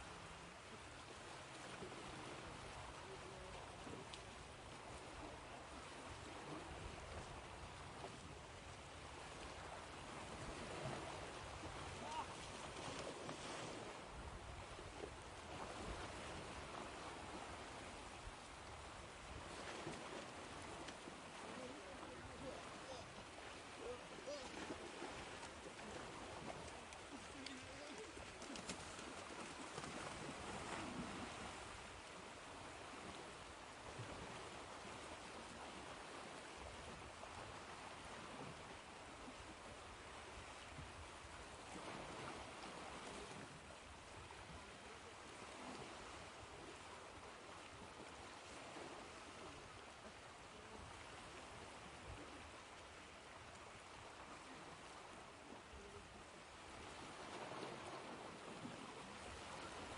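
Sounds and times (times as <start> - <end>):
ocean waves washing onto shore: 0.0 - 59.9.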